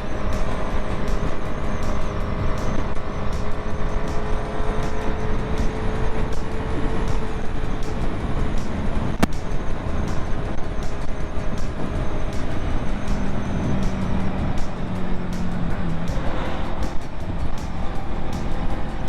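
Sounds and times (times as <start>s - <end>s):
motorcycle engine running: 0.0s - 19.0s
road and wind noise: 0.0s - 19.0s
sharp click: 0.3s - 19.0s.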